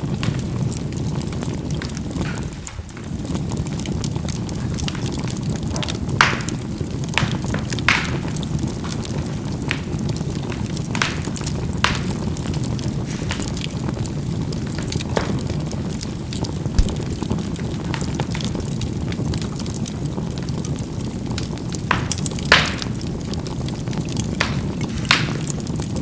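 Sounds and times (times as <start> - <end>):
charcoal popping and crackling: 0.0 - 26.0
fire rushing: 0.0 - 26.0.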